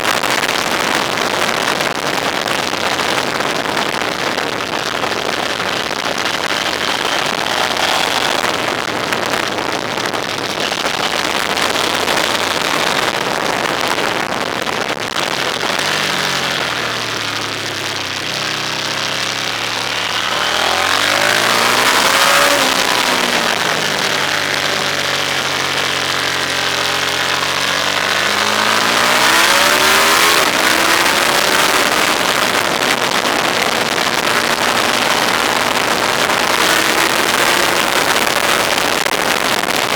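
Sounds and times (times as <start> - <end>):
wind and road noise: 0.0 - 39.9
vehicle engine revving: 2.4 - 14.0, 14.6 - 39.2.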